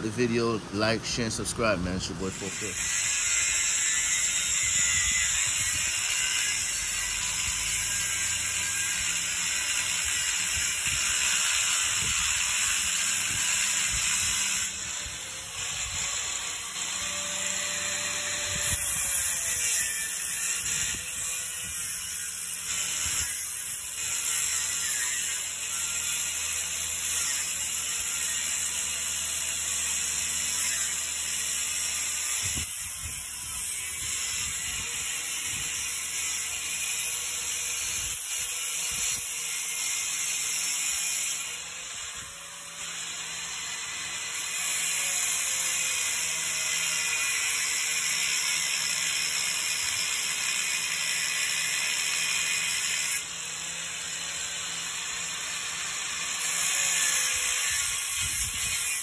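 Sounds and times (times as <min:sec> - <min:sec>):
angle grinder cutting steel: 0:00.0 - 0:59.0.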